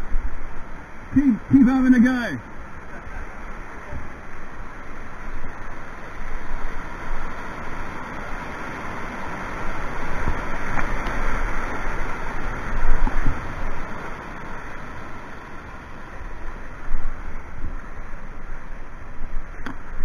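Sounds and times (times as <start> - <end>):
rushing white water: 0.0 - 20.0.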